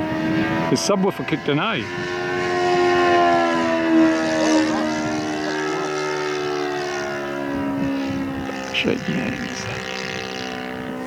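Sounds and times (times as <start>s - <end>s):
model aeroplane engine drone: 0.0s - 11.0s.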